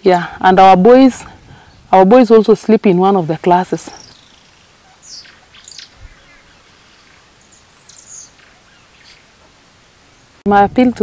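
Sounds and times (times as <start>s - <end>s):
birds chirping: 0.0s - 10.4s
faint outdoor background noise: 0.0s - 11.0s.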